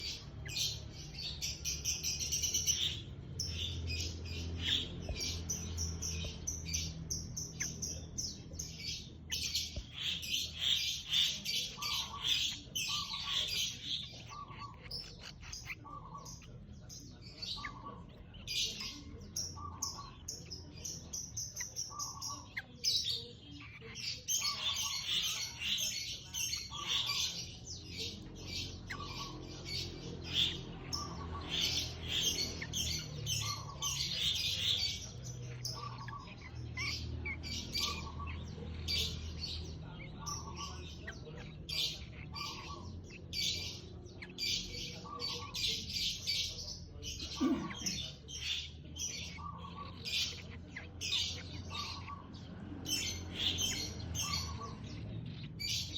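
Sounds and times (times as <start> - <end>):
bird chicks chirping: 0.0 - 55.9.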